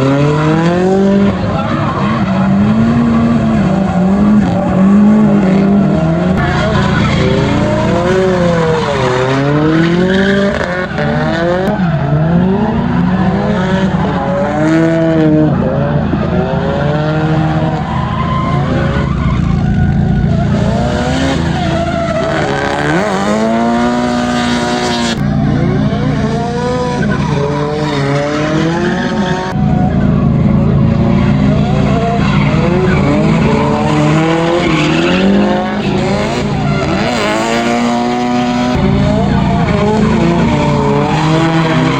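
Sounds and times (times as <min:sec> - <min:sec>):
car engines revving: 0:00.0 - 0:41.9
tyres skidding and squealing: 0:00.0 - 0:41.9.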